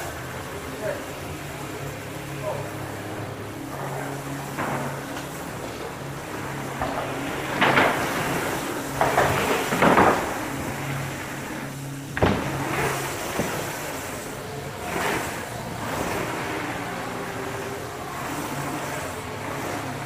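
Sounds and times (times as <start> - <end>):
bike tyres rolling on dirt: 0.0 - 20.0.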